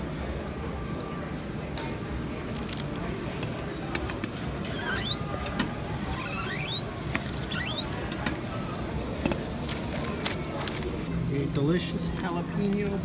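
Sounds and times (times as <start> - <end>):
restaurant background din: 0.0 - 13.0.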